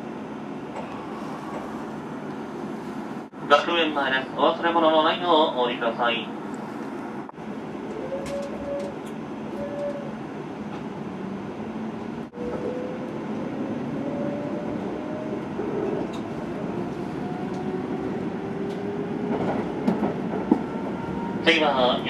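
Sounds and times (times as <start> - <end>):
train running rumble: 0.2 - 22.0.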